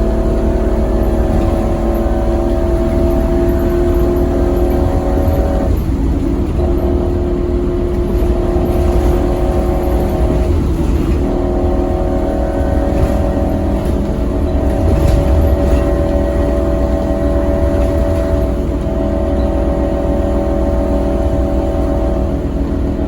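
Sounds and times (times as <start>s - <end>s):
diesel bus engine under load: 0.0s - 23.0s.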